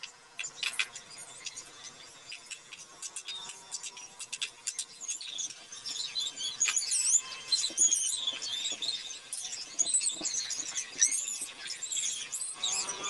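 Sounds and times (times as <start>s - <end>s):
high chirps and squeaks: 0.0s - 13.0s.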